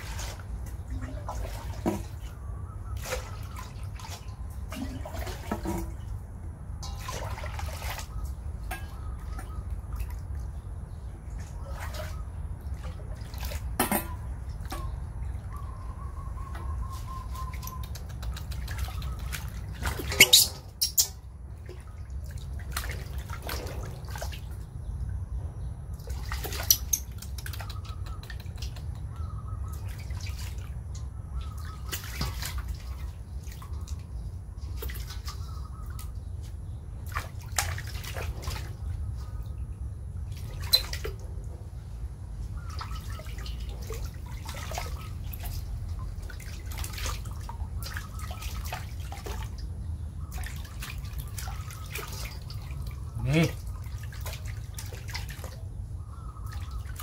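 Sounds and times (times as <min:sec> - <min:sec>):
water splashing in metal basin: 0:00.0 - 0:25.1, 0:25.9 - 0:28.9, 0:29.6 - 0:36.2, 0:37.0 - 0:39.1, 0:40.2 - 0:41.5, 0:42.5 - 0:57.0.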